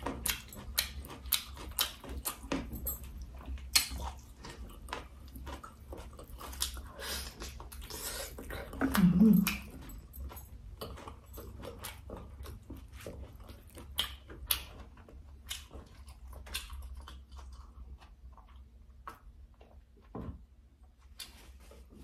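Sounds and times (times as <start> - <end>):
wet chewing and smacking: 0.0 - 22.0.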